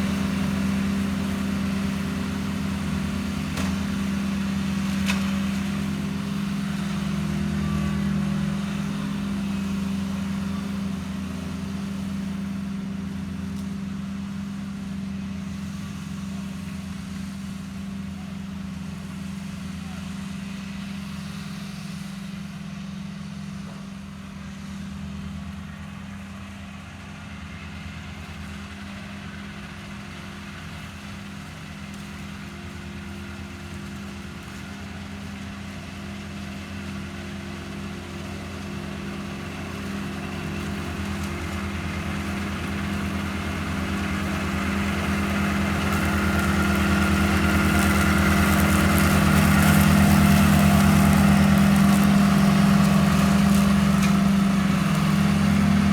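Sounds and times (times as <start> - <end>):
mower engine humming: 0.0 - 55.9.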